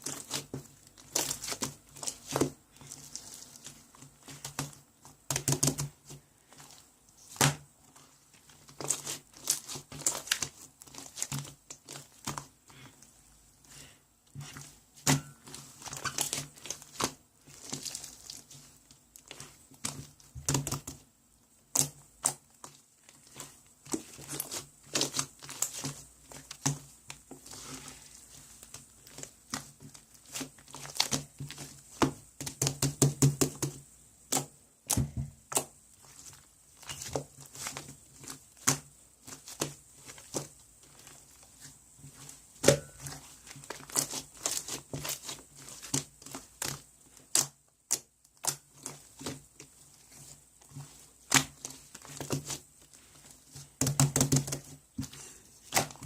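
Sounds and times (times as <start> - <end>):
crinkling: 0.0 - 56.0.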